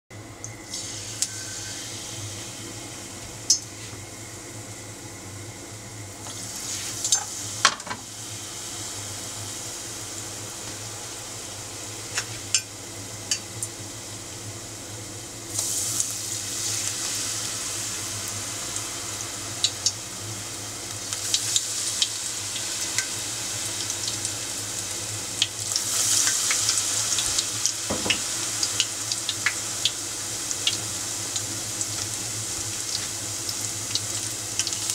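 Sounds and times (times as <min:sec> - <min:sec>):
food sizzling in hot oil: 0:00.6 - 0:34.9.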